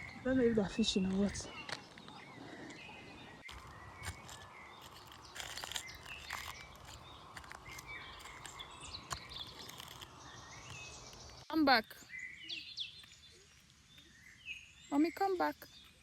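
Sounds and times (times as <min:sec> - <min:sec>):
small birds chirping and calling: 0:00.0 - 0:16.0.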